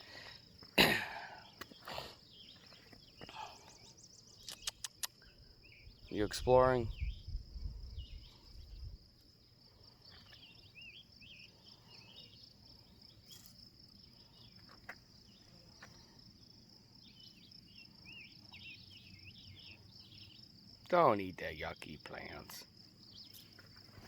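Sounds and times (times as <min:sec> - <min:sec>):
faint chirps: 0:00.0 - 0:24.0
faint insect drone: 0:00.0 - 0:24.0.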